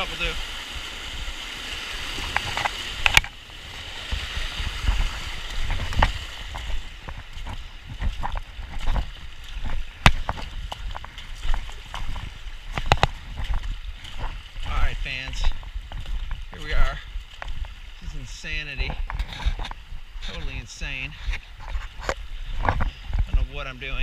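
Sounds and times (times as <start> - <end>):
water splashing as person wades: 0.0 - 23.4
rushing river water: 0.0 - 24.0.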